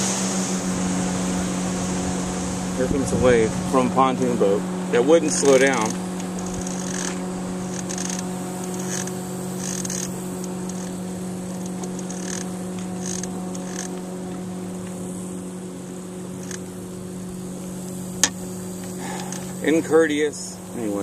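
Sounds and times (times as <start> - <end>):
wake splashing against boat hull: 0.0 - 19.6
steady motor hum: 0.0 - 21.0.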